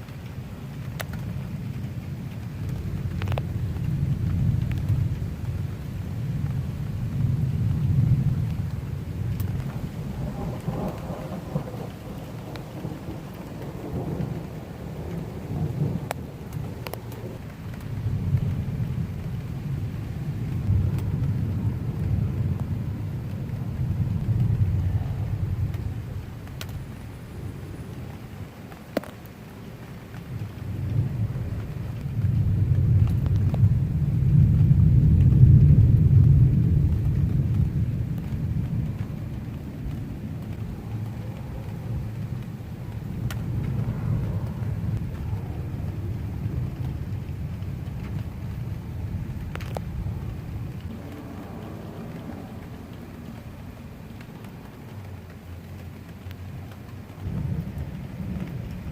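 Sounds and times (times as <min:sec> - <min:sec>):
steady rain falling: 0:00.0 - 0:58.9
thunder rumbling: 0:00.0 - 0:58.9.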